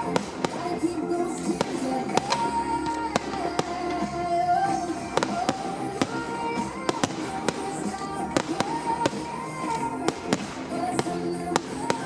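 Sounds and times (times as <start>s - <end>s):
fireworks bangs: 0.0s - 12.0s
loud music: 0.0s - 12.0s.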